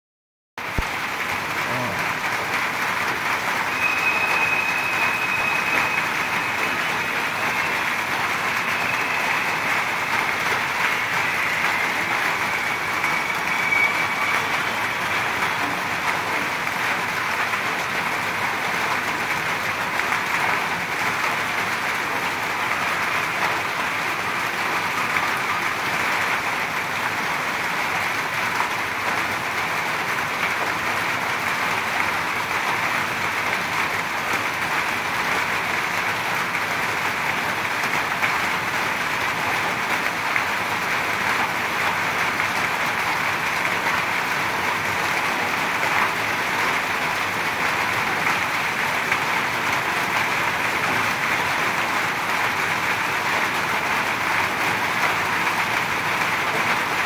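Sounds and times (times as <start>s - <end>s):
heavy rain falling: 0.6s - 57.0s.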